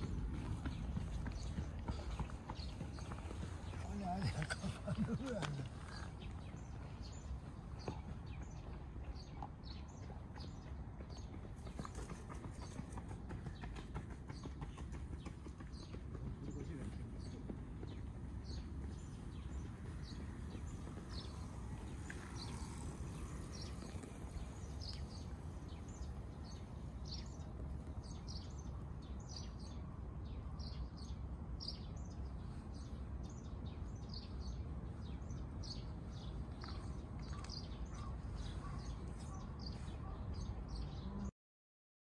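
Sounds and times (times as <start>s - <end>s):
small birds chirping: 0.0s - 41.3s.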